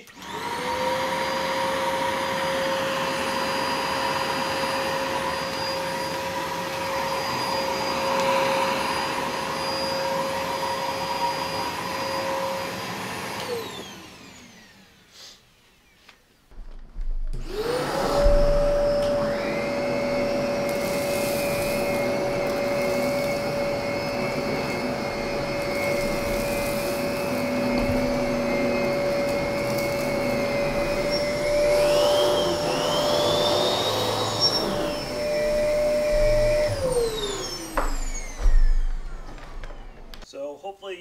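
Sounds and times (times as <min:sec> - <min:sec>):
vacuum cleaner motor whining: 0:00.0 - 0:40.3.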